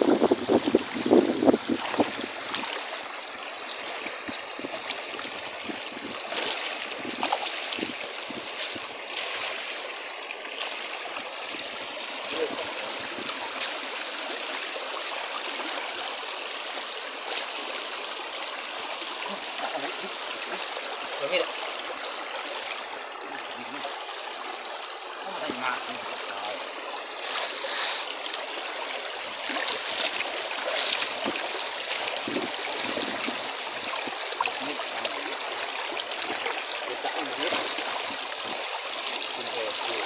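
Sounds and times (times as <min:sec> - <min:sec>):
stream running over stones: 0:00.0 - 0:40.0
water splashing: 0:00.0 - 0:40.0.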